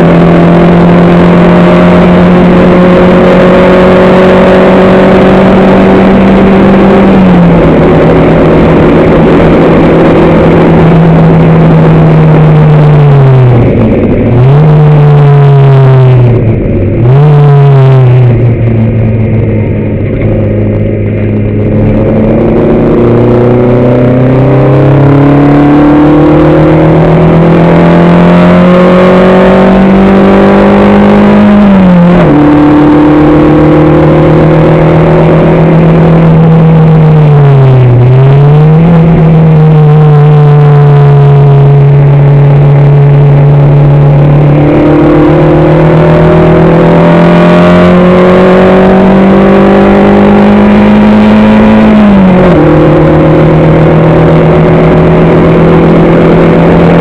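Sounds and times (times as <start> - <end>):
racing car engine accelerating: 0.0 - 57.0.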